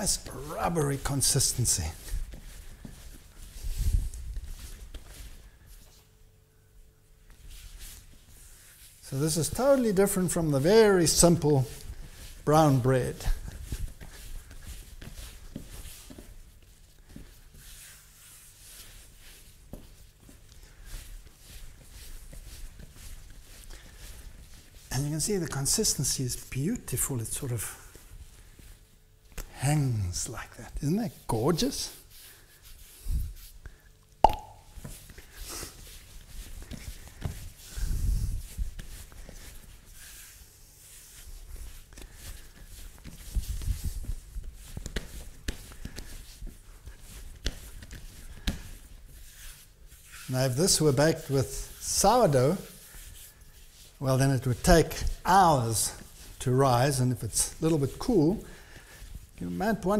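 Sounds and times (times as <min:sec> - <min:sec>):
dough rubbing and brushing: 0:00.0 - 0:59.9.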